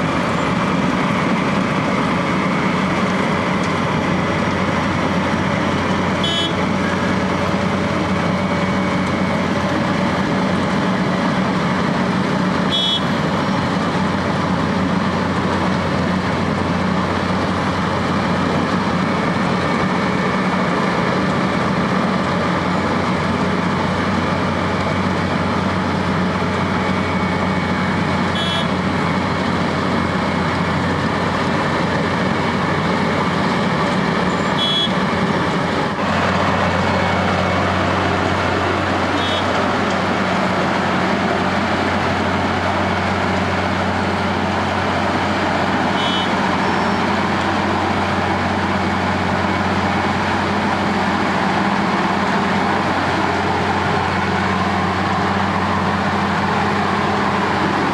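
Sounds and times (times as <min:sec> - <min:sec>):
cutter drum grinding asphalt: 0:00.0 - 0:57.9
heavy diesel engine drone: 0:00.0 - 0:57.9.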